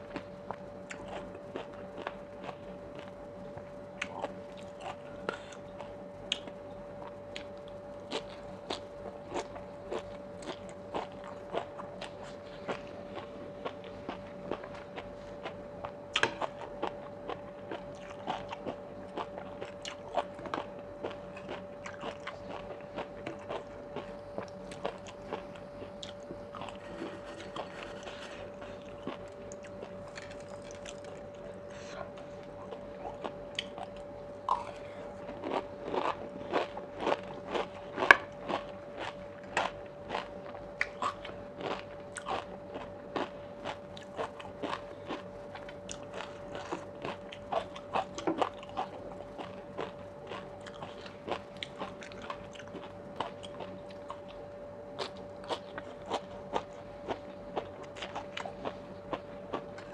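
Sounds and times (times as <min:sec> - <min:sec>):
crisp crunching and chewing: 0:00.0 - 0:59.9
faint steady hum: 0:00.0 - 0:59.9.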